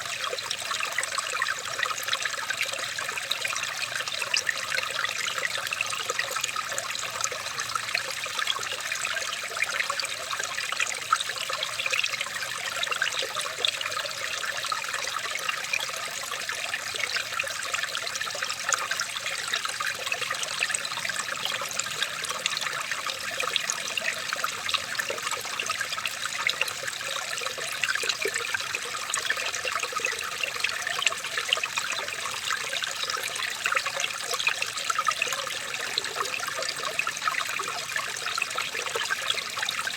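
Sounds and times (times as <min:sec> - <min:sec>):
stream water trickling and splashing: 0:00.0 - 0:39.9.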